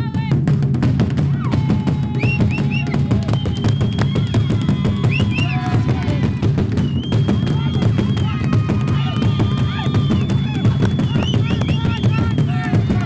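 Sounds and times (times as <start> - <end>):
drums in fast driving rhythm: 0.0 - 13.0.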